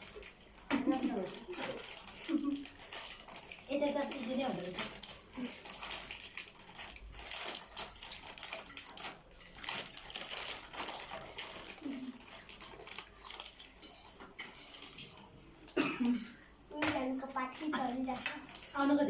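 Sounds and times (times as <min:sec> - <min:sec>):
chewing: 0:00.0 - 0:15.4
utensils clicking against bowls: 0:00.0 - 0:19.0.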